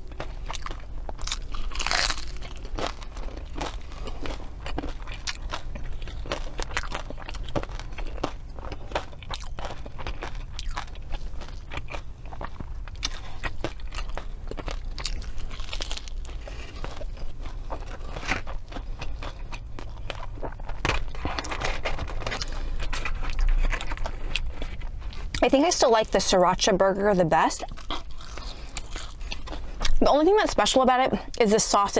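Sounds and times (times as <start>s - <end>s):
close chewing and crunching: 0.0s - 31.9s.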